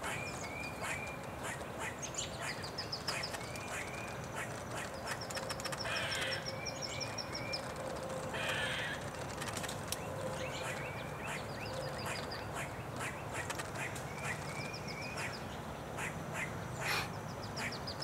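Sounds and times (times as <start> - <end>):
ducklings peeping: 0.0 - 7.8, 10.5 - 15.4, 16.0 - 18.0
bird calls: 0.0 - 18.0
harsh bird calls: 0.0 - 18.0.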